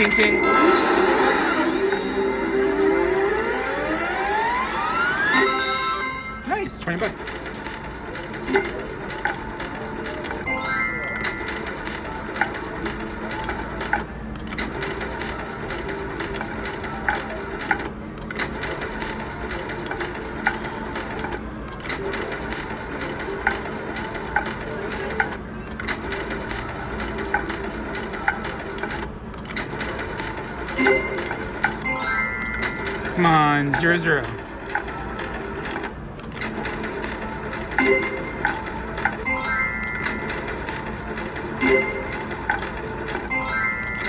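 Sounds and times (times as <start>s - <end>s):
casino floor din: 0.0s - 14.0s, 21.8s - 44.0s
slot machine reels spinning: 0.0s - 44.0s.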